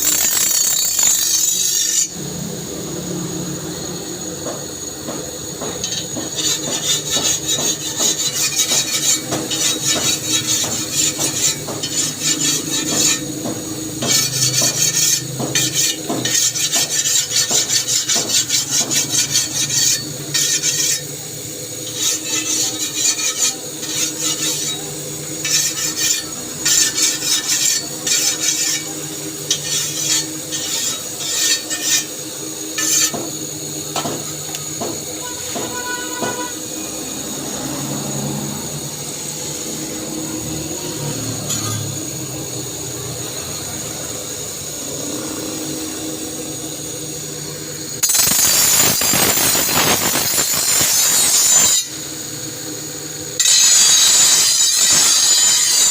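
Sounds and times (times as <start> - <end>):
steel file rasping on blade: 0.0 - 2.2, 4.4 - 42.6, 47.8 - 52.0, 53.4 - 55.9.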